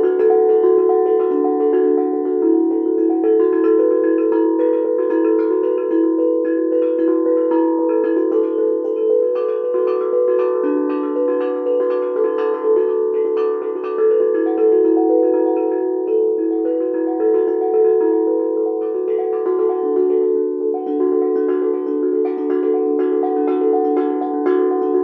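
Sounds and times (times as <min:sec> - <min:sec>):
handpan played with mallets: 0:00.0 - 0:25.0.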